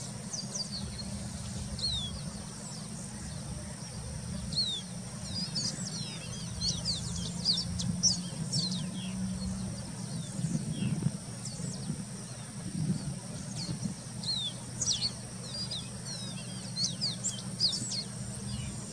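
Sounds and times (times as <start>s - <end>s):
bird singing whistled notes: 0.0s - 12.4s, 13.4s - 18.9s.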